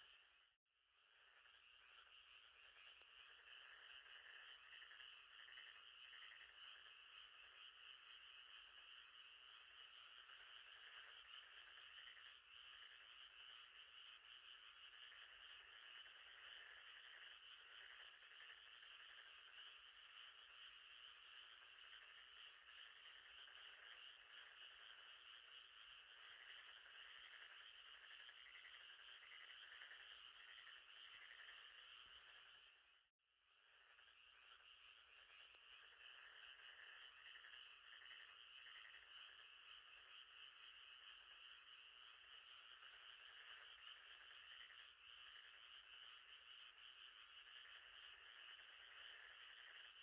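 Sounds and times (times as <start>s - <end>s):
frogs trilling chorus: 1.0s - 50.0s.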